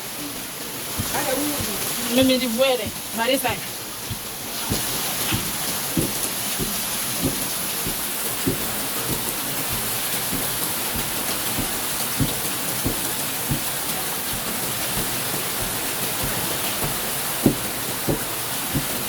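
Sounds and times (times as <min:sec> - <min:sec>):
heavy rain falling: 0:00.0 - 0:19.0
dull plops of drops: 0:00.9 - 0:19.0.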